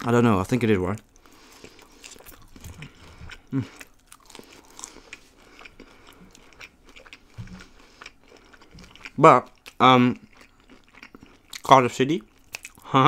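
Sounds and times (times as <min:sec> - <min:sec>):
chewing and crunching: 0:00.8 - 0:13.0.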